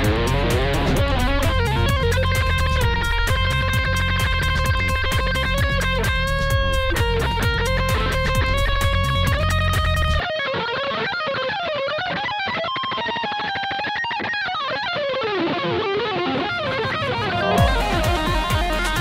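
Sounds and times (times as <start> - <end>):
rock music with electric guitar: 0.0 - 19.0.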